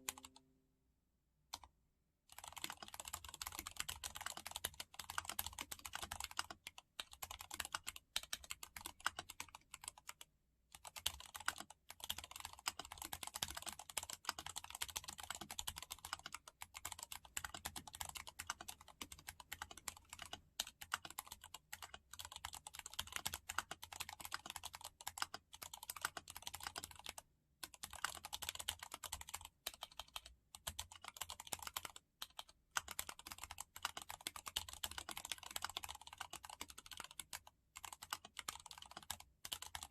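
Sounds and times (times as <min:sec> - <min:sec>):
mechanical keyboard typing: 0:00.0 - 0:00.4, 0:02.3 - 0:39.9.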